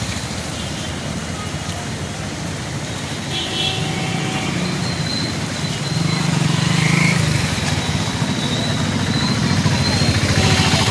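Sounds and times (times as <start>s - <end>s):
bikes splashing through water: 0.0s - 10.9s
motorcycle engines running: 0.0s - 10.9s.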